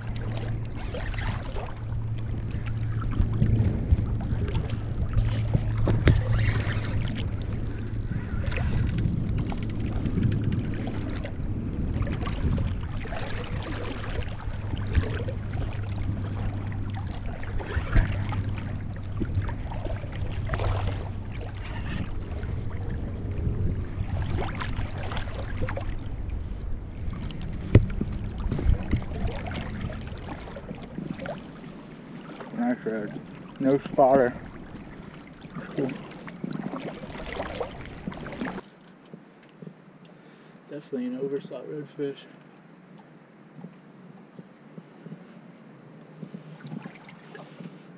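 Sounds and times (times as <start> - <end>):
water sloshing and splashing: 0.0 - 39.7, 46.1 - 47.9
steady low hum: 0.0 - 47.9.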